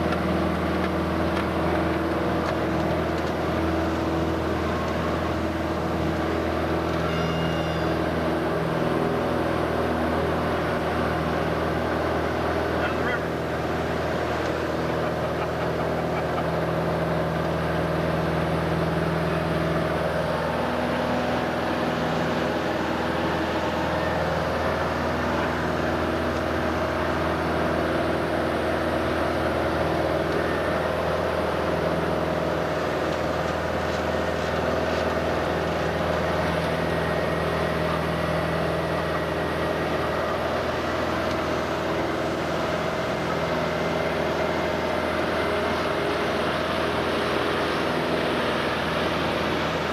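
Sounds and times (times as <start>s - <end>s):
airplane engine and propeller drone: 0.0s - 49.9s.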